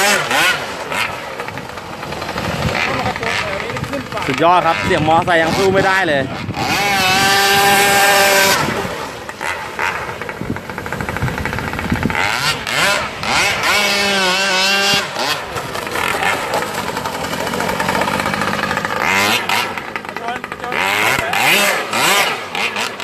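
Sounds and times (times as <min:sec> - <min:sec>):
brush cutter engine revving: 0:00.0 - 0:23.0.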